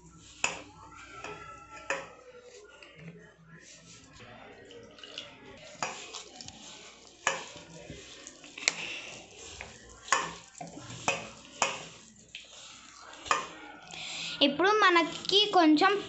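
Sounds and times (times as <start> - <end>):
hand mixing batter scraping: 0.0 - 16.0.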